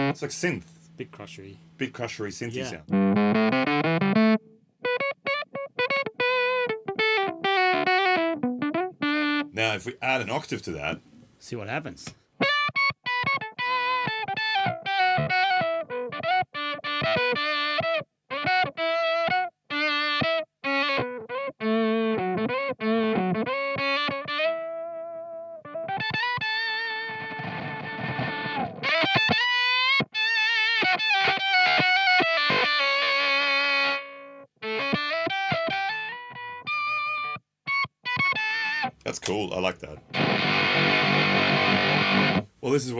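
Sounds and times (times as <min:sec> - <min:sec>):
electric guitar with octave fuzz: 0:00.0 - 0:00.2, 0:02.6 - 0:09.5, 0:12.3 - 0:42.6.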